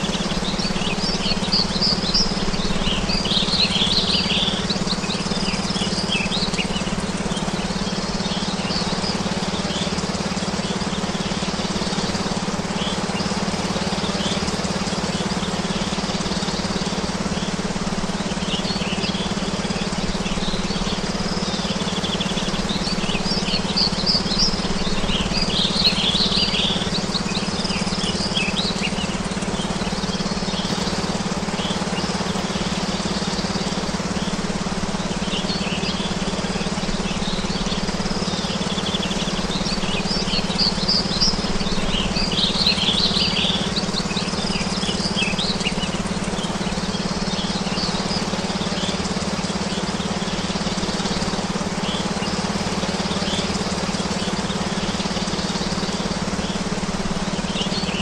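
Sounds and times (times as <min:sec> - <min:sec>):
songbirds chirping: 0:00.0 - 0:58.0
steady low hum: 0:00.0 - 0:58.0.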